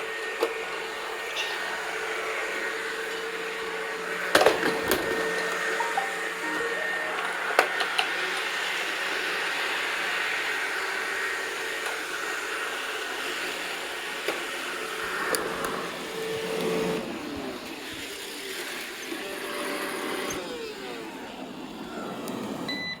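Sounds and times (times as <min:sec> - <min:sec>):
robot vacuum whirring: 0:00.1 - 0:23.0.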